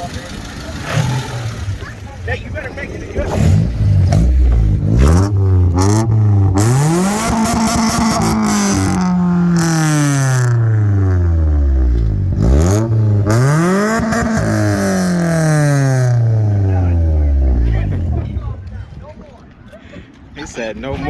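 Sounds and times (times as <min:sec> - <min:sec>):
car engine revving: 0:00.0 - 0:18.4.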